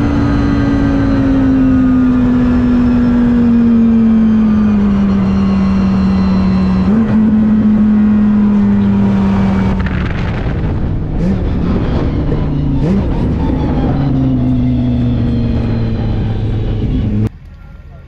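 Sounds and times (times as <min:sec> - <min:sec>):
car engine under power: 0:00.0 - 0:17.3.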